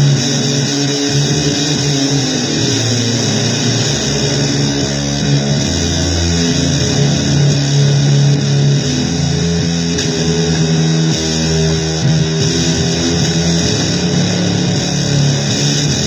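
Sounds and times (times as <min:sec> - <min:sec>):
electric guitar noise music: 0:00.0 - 0:16.0.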